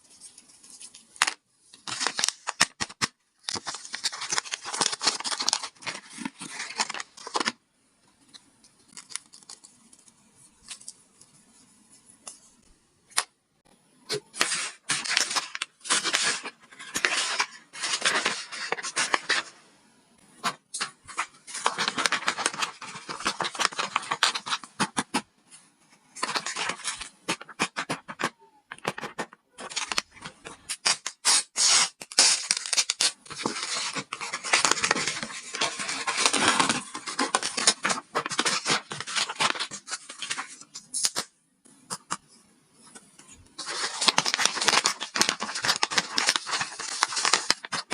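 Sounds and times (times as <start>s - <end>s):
paper rustling and crinkling: 0.0s - 7.6s, 8.2s - 11.3s, 14.1s - 19.5s, 20.4s - 25.2s, 26.1s - 41.3s, 43.5s - 47.9s.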